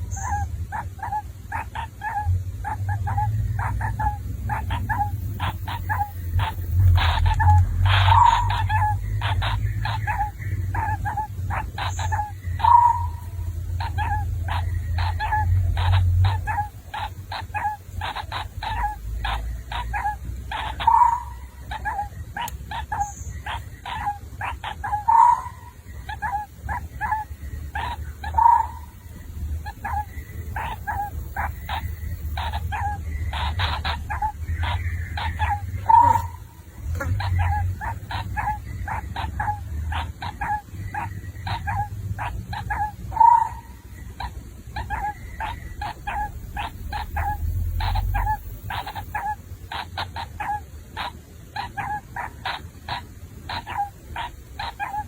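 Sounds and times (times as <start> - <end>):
baby bird chirping: 0.0 - 55.0.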